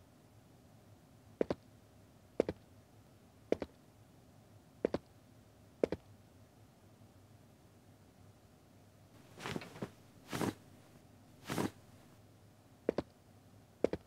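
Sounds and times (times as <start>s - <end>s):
faint room hush: 0.0s - 14.0s.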